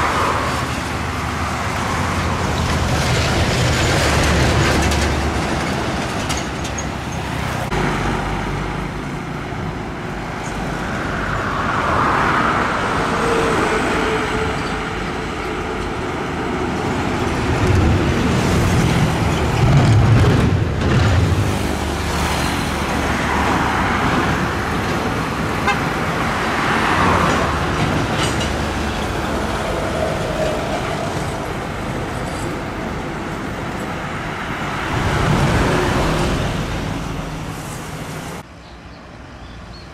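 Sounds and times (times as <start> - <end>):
trucks and motorcycles passing: 0.0 - 39.9.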